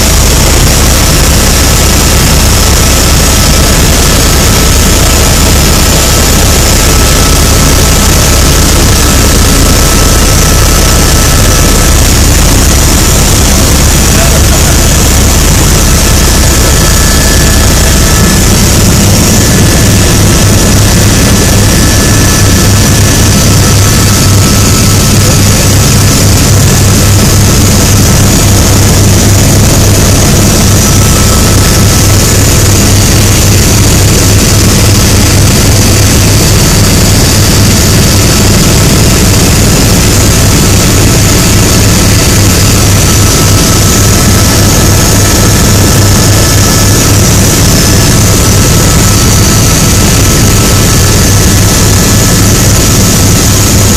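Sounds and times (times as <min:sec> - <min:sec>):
faint high whine: 0:00.0 - 0:53.9
helicopter engine and rotor drone: 0:00.0 - 0:53.9.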